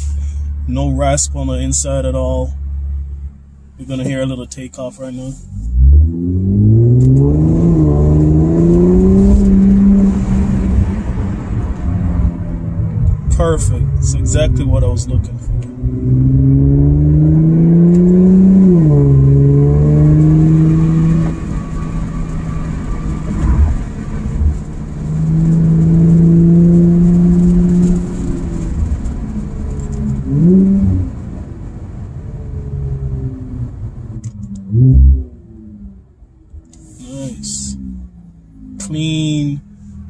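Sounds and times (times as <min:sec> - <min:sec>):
turbocharged car engine accelerating: 0:05.5 - 0:40.0.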